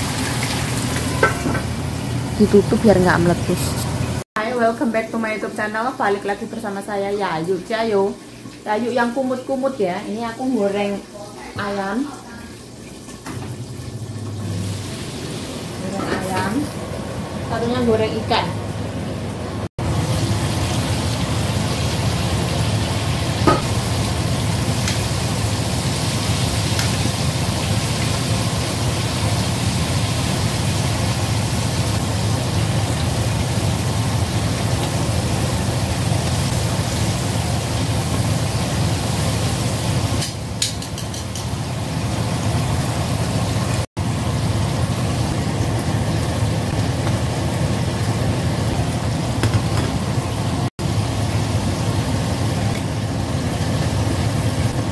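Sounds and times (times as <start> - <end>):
oil sizzling and bubbling: 0.0 - 54.9.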